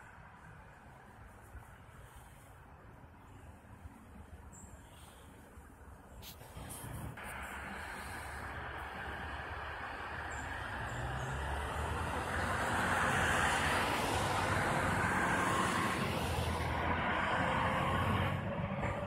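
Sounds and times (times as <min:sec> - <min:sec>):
road traffic engines and tyres: 0:00.0 - 0:19.0.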